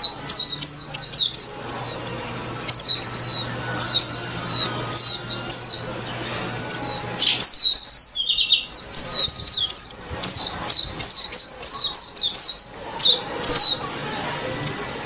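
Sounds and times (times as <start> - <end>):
bird warbling high chirps: 0.0 - 15.0
low bird trill: 0.0 - 15.0.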